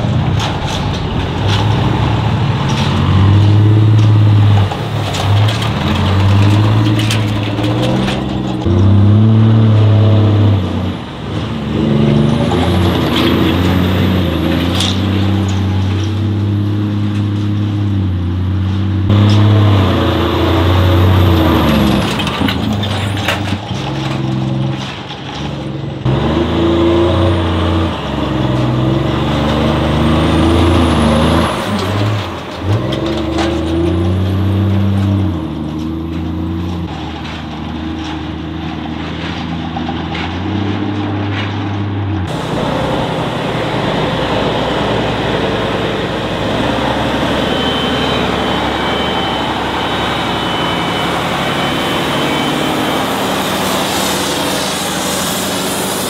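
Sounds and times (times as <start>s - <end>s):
truck diesel engines revving: 0.0s - 56.0s.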